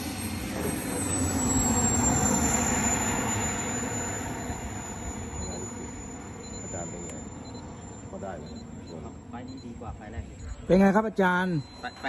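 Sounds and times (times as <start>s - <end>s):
rush of engine noise: 0.0s - 10.6s
jet turbine whine: 0.0s - 12.0s.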